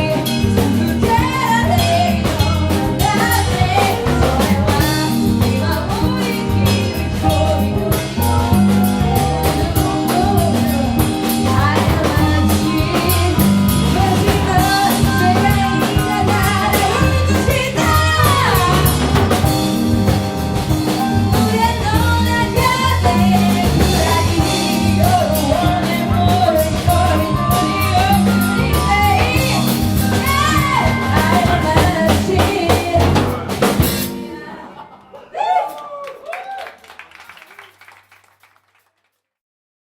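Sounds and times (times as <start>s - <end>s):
person singing: 0.0s - 19.9s, 20.6s - 34.9s
rock band playing: 0.0s - 34.8s.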